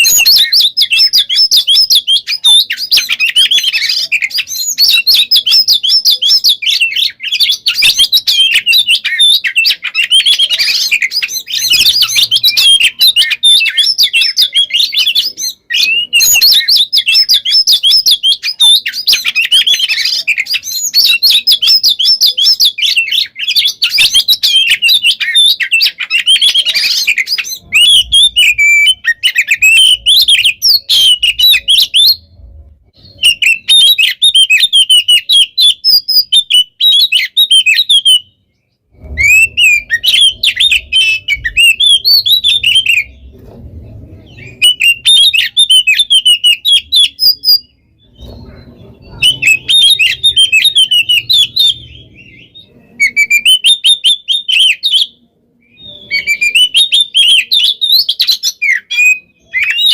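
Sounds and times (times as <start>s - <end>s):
songbird singing trills and whistles: 0.0s - 59.9s.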